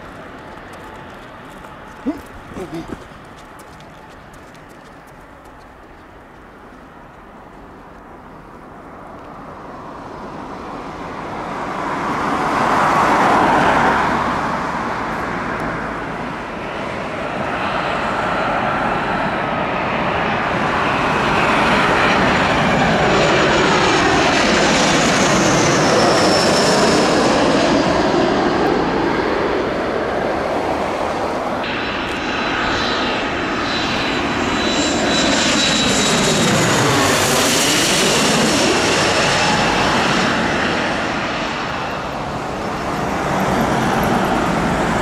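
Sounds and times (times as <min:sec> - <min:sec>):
jet airliner engines roaring: 0:00.0 - 0:45.0.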